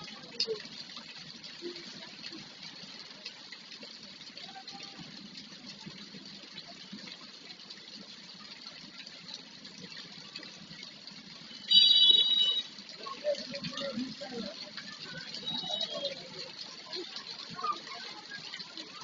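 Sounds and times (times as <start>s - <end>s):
rain falling steadily: 0.0s - 19.0s.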